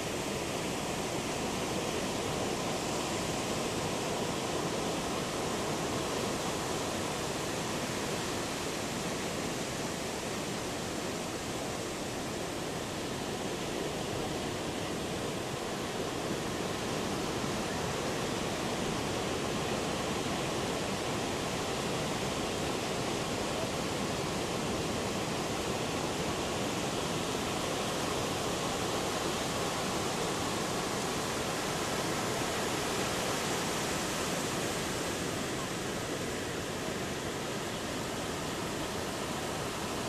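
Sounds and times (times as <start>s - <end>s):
heavy ocean surf: 0.0s - 40.0s.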